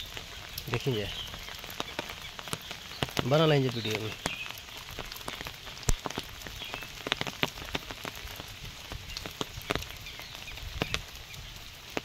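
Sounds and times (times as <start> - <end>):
rain falling: 0.0 - 12.0
raindrops tapping on umbrella: 0.0 - 12.0.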